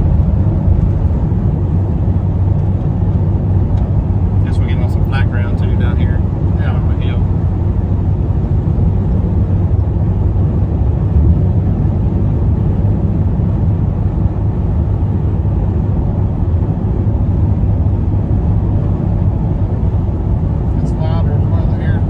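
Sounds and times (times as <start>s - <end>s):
diesel truck engine droning: 0.0s - 22.0s
road and tyre noise: 0.0s - 22.0s.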